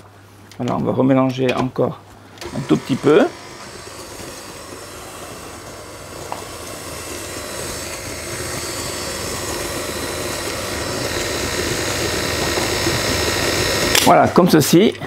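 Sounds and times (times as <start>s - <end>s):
stand mixer running: 2.4s - 14.7s.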